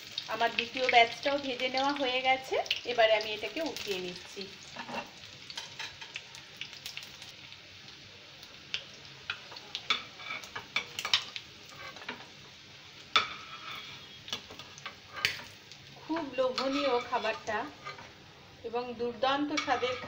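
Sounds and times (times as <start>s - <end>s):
food deep-frying in hot oil: 0.0s - 20.0s.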